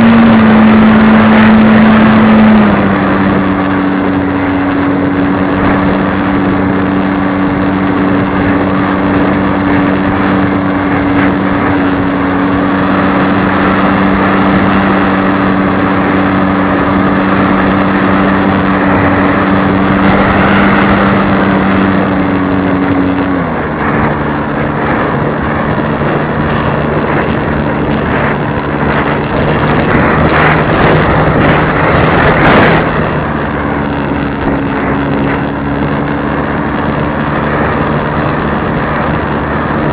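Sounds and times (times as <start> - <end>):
model airplane motor: 0.0 - 39.9
wind noise rush: 0.0 - 39.9.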